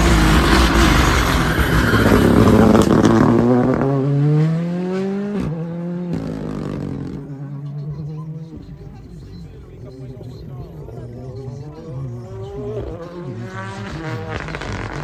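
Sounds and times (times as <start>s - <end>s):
rally car engine accelerating: 0.0s - 8.6s, 11.0s - 15.0s.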